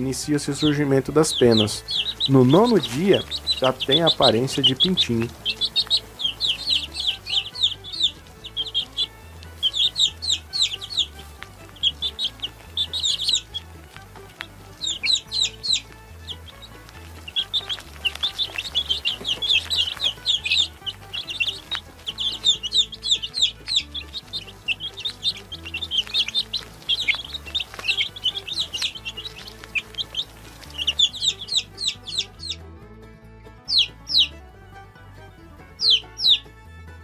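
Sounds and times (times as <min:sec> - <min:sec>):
baby chicks peeping: 0:00.0 - 0:32.7, 0:33.5 - 0:34.6, 0:35.2 - 0:36.6.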